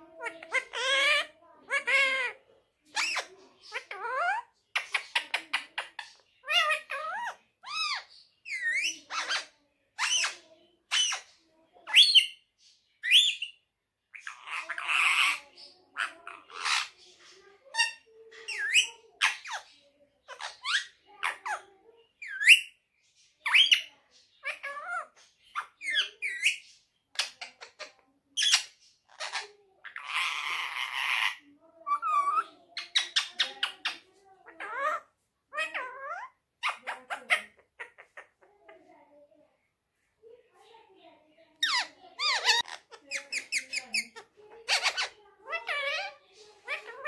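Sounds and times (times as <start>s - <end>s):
parakeet squawk: 0.0s - 12.4s, 14.2s - 22.8s, 23.4s - 38.4s, 41.6s - 47.0s.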